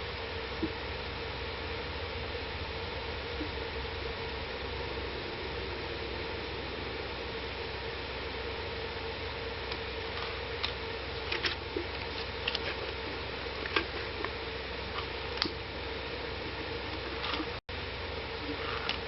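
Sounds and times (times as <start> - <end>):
faint low hum: 0.0 - 19.0
steady hiss: 0.0 - 19.0.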